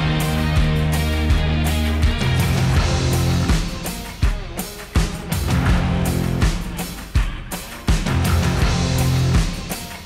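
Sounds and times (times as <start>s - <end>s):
rock music with drum beat: 0.0s - 10.0s.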